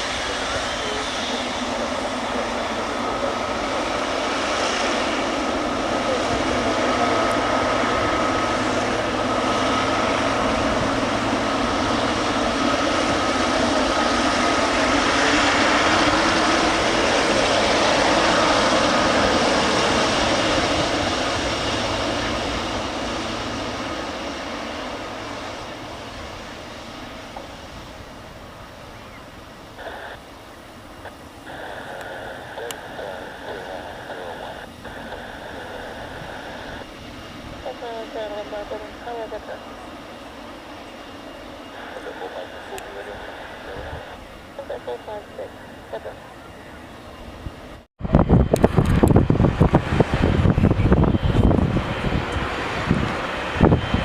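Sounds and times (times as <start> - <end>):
jet engines roaring past: 0.0 - 54.0.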